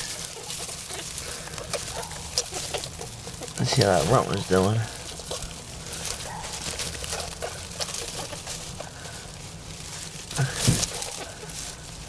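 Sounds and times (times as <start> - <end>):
dry hay rustling and crackling: 0.0 - 12.0.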